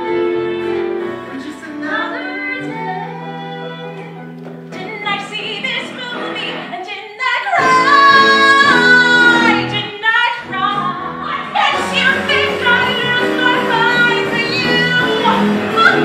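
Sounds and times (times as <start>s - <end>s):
woman singing: 1.2s - 16.0s.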